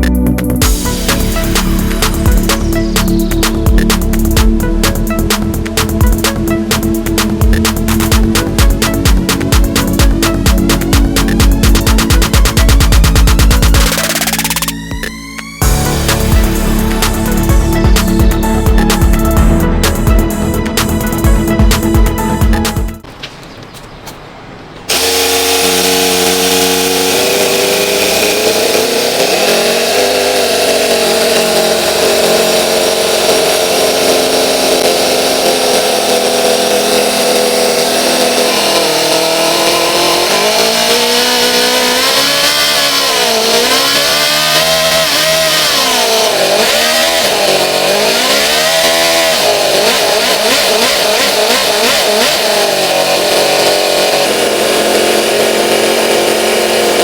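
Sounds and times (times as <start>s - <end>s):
model engine running and revving: 0.0s - 23.0s, 24.9s - 57.0s.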